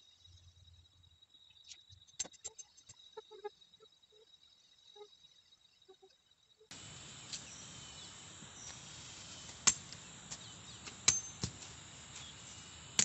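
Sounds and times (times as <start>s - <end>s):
faint bird chirps: 0.0s - 12.8s
insects hissing: 0.0s - 13.0s.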